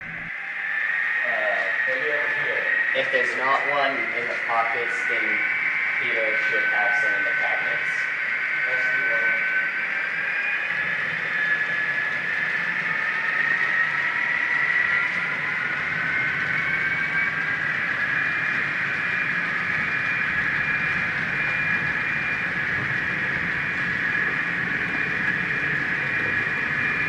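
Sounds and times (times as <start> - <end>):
model train motors whining: 1.0 - 27.0.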